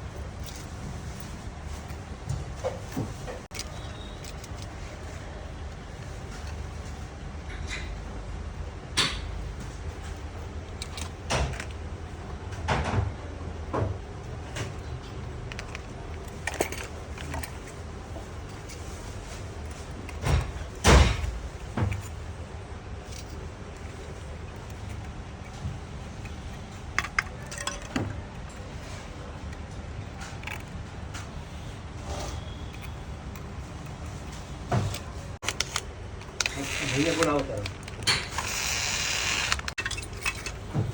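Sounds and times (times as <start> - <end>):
parts knocking and clicking: 0.3 - 8.1, 8.9 - 13.1, 13.7 - 31.5, 32.1 - 40.9.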